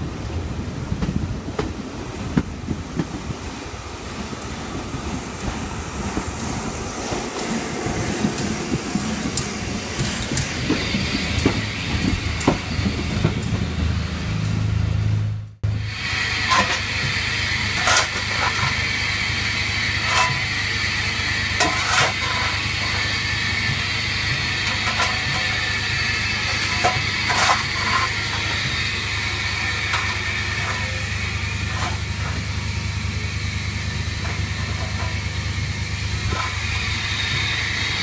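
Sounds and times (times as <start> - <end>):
steam hissing: 1.6 - 38.0.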